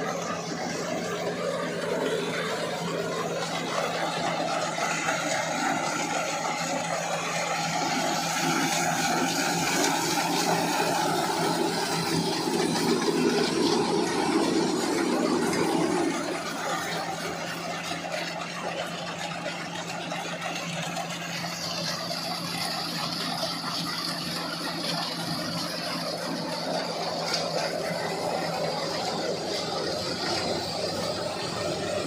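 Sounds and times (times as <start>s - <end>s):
high whine: 0.0s - 19.8s, 20.9s - 32.0s
harvester engine running: 0.0s - 32.0s.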